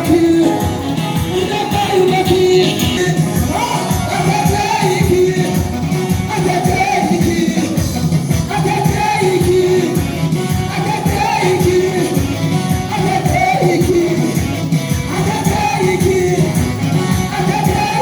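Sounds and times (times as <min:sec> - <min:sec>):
band with driving beat: 0:00.0 - 0:18.0
person singing gospel: 0:00.0 - 0:18.0.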